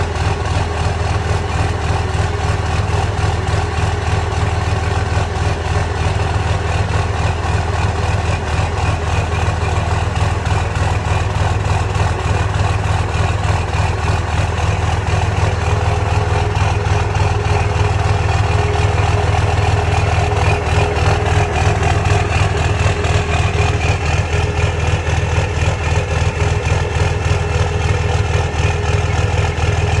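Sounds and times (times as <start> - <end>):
diesel engine idling with clatter: 0.0 - 30.0.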